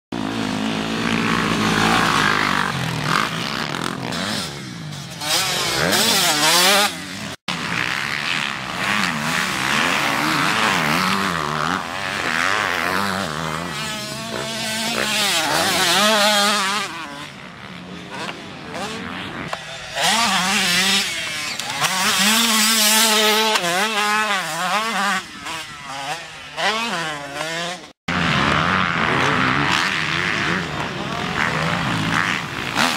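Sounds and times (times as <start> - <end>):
motocross bike engine revving: 0.1 - 32.9
quad engine revving: 0.1 - 32.9.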